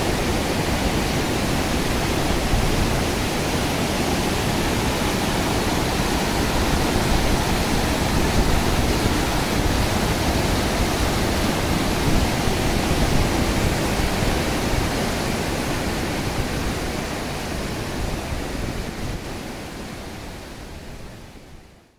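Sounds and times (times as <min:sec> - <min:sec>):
water rushing through weir: 0:00.0 - 0:20.9.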